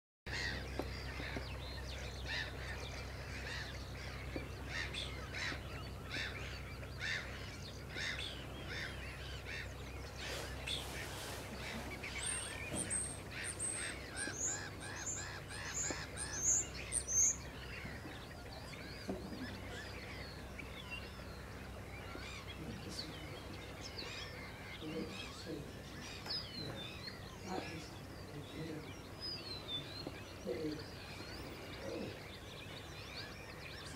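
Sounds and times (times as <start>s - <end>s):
birds calling: 0.3s - 33.9s.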